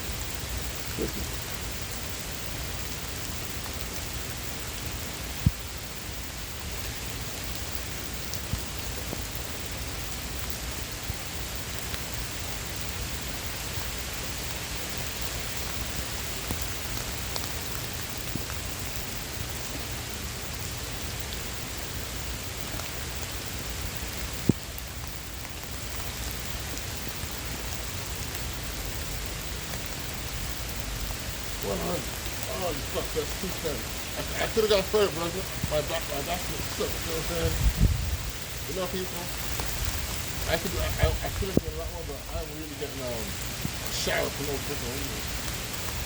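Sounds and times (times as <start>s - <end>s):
heavy rain pouring: 0.0s - 46.0s
raindrop ticks: 0.0s - 46.0s.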